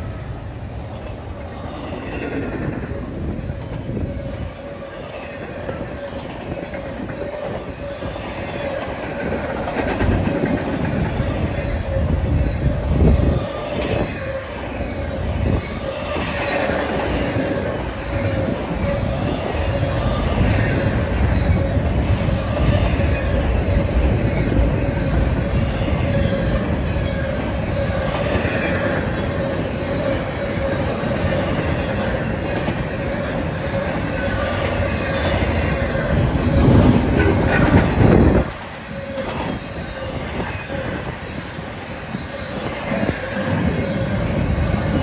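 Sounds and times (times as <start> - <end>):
train wheels rumbling on rail: 0.0 - 45.0
high wheel squeal: 1.5 - 9.7, 11.0 - 45.0.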